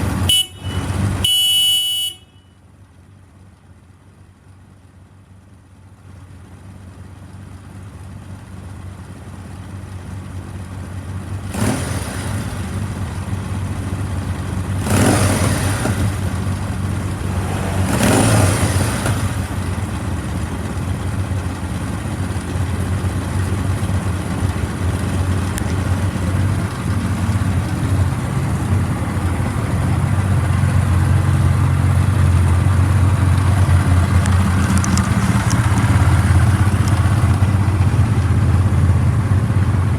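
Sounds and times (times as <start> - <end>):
motorcycle engine idling and blipped: 0.0 - 39.9.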